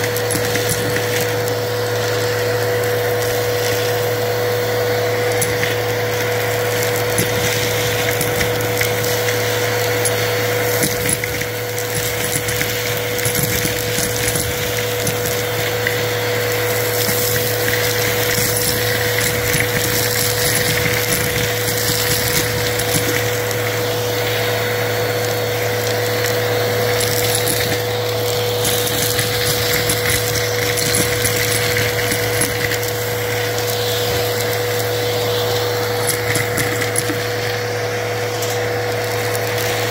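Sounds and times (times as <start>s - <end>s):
small pieces clicking and rattling: 0.0s - 39.9s
vacuum cleaner running: 0.0s - 39.9s.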